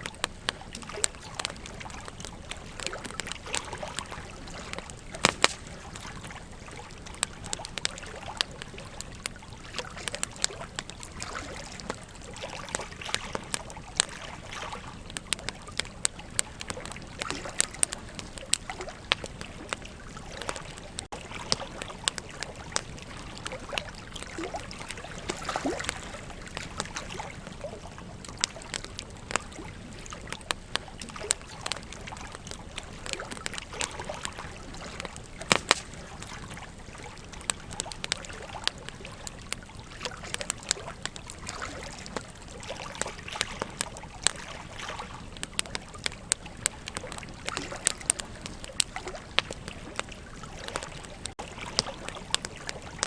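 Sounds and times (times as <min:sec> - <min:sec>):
burning wood crackling and popping: 0:00.0 - 0:53.0
river water flowing: 0:00.0 - 0:53.0.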